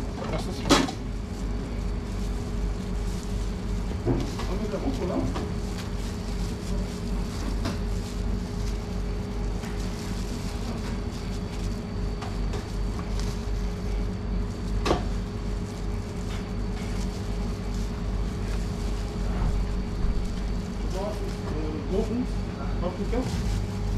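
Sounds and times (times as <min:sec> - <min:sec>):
shop machinery hum: 0:00.0 - 0:23.9.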